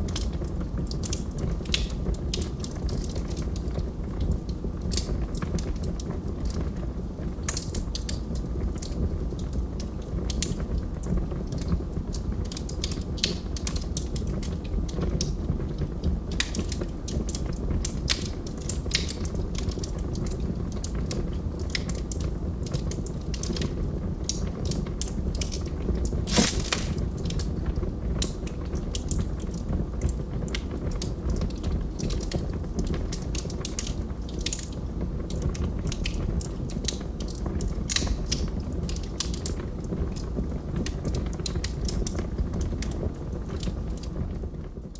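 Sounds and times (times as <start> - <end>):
fire rumbling: 0.0 - 44.9
logs crackling and popping: 0.1 - 6.8, 7.4 - 44.9.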